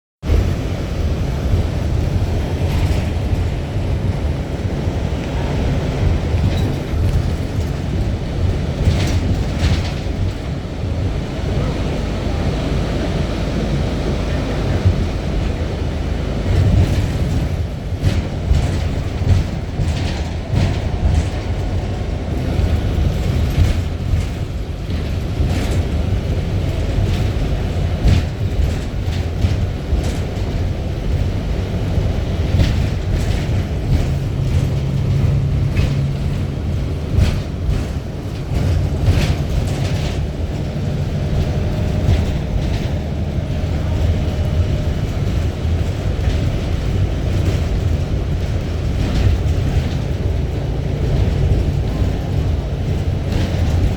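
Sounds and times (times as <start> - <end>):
wind buffeting microphone: 0.2 - 53.9.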